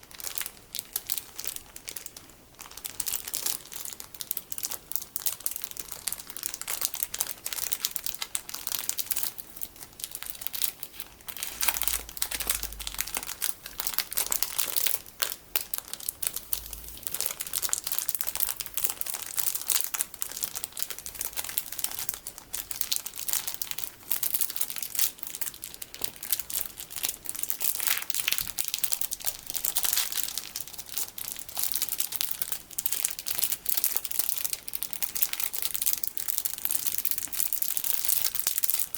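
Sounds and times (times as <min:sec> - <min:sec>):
plastic packaging crinkling: 0:00.0 - 0:38.9.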